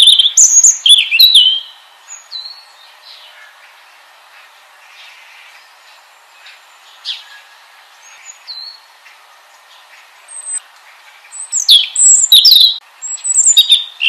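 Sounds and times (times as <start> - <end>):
robin singing: 0.0 - 14.0.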